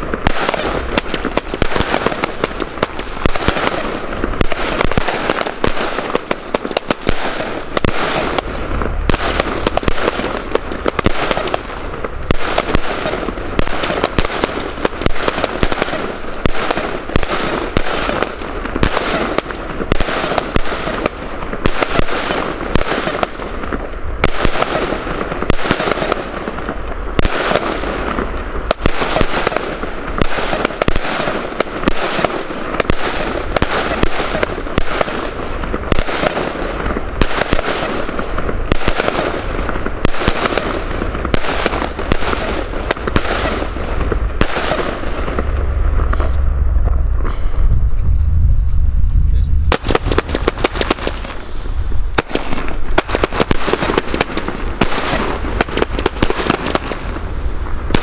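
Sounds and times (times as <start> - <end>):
fireworks rapid sharp bangs: 0.0 - 47.4, 49.6 - 58.0.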